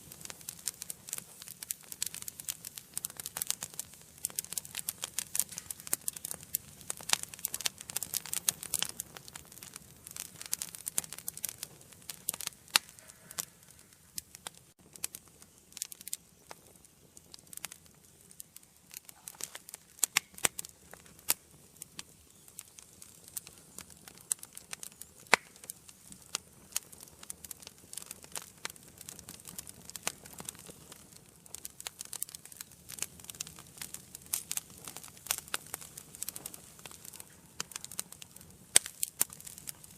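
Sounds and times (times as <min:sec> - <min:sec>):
faint rush of flames: 0:00.0 - 0:39.9
fire crackling and popping: 0:00.0 - 0:39.9.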